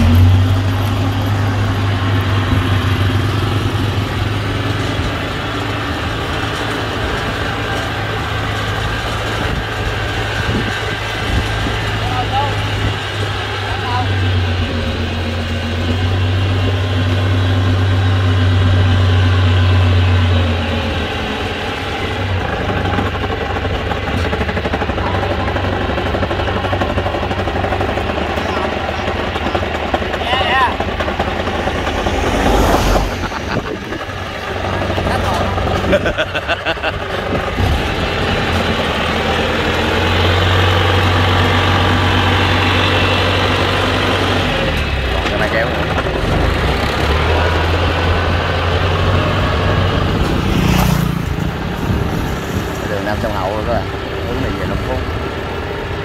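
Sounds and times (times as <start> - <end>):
tracked tractor engine running: 0.0 - 56.0.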